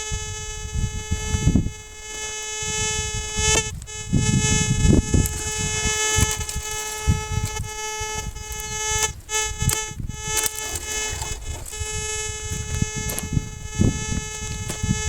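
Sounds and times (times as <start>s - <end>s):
metal detector buzzy tone: 0.0s - 15.0s
wind on microphone: 0.0s - 15.0s.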